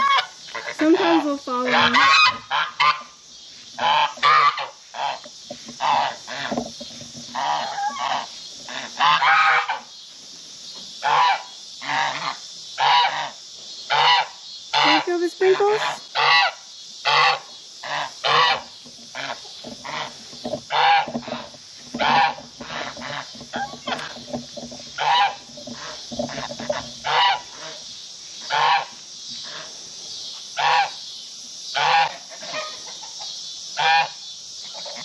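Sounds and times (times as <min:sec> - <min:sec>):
geese honking: 0:00.0 - 0:03.2, 0:03.8 - 0:09.9, 0:11.0 - 0:29.7, 0:30.6 - 0:31.0, 0:31.7 - 0:33.2, 0:33.8 - 0:35.0.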